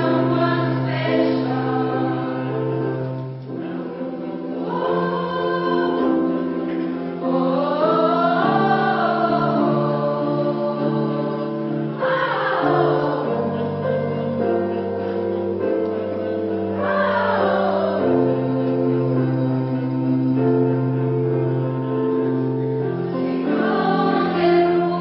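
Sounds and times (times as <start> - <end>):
choir singing in harmony: 0.0 - 25.0.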